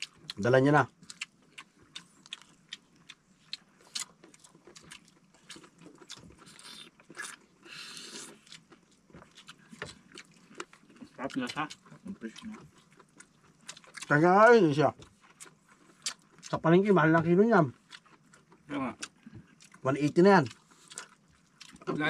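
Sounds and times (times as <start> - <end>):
chewing and lip smacks: 0.0 - 14.1, 14.9 - 16.6, 17.7 - 19.8, 20.4 - 22.0.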